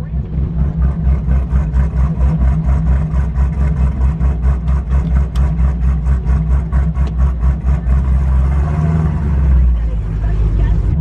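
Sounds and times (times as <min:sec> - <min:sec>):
loud rough car engine idling: 0:00.0 - 0:11.0.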